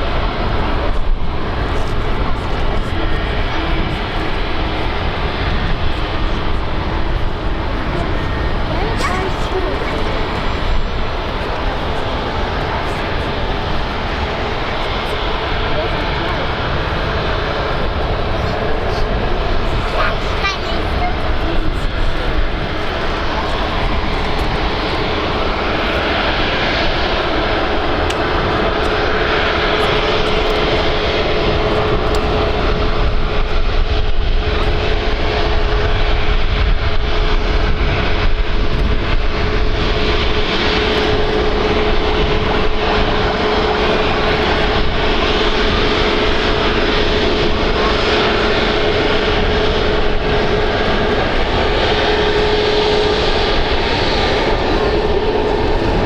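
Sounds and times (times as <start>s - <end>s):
jet engines running with whine: 0.0s - 56.0s.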